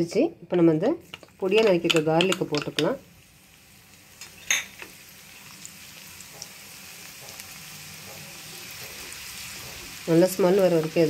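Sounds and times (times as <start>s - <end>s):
garlic sizzling in hot oil: 1.0s - 11.0s.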